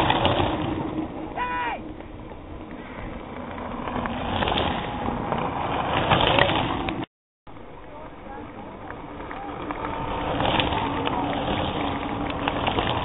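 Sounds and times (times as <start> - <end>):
outdoor noise: 0.0 - 13.0.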